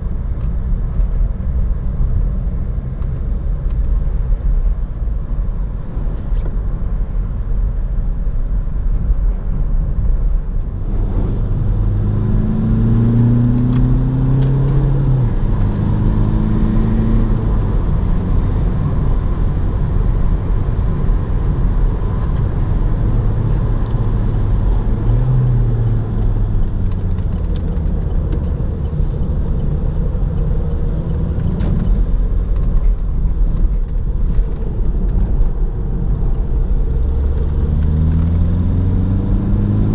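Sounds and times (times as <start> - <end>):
diesel car engine accelerating: 0.0 - 39.9
road rumble: 0.0 - 39.9.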